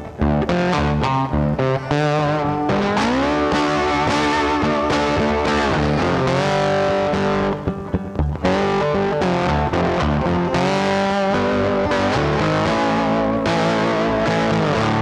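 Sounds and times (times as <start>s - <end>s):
rock music with distorted guitar: 0.0s - 15.0s.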